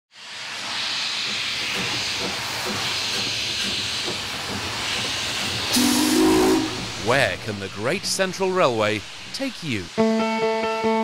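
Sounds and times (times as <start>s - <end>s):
steam hissing from locomotive: 0.1s - 11.0s.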